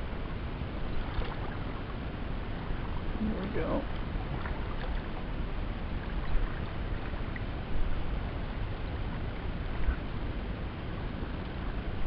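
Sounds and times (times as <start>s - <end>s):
small waves lapping at boat: 0.0s - 12.0s
wind rumbling on microphone: 0.0s - 12.0s.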